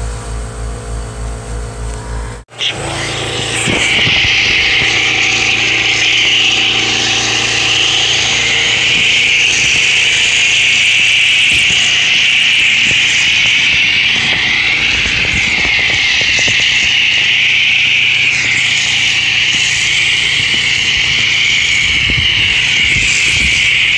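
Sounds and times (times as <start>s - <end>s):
low pulsing sound: 0.0s - 23.9s
pressure washer foam spray hiss: 2.6s - 23.9s.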